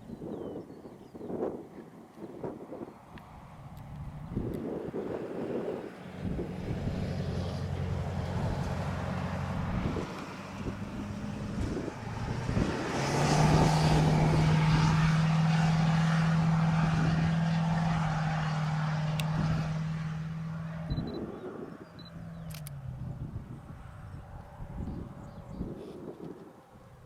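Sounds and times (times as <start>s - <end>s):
wind on microphone: 0.0s - 27.0s
vehicle passing by: 2.5s - 27.0s.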